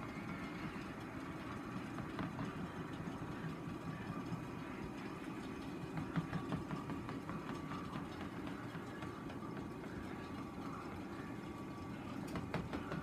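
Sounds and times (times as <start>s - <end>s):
treadmill belt rumbling: 0.0s - 13.0s
treadmill motor humming: 0.0s - 13.0s.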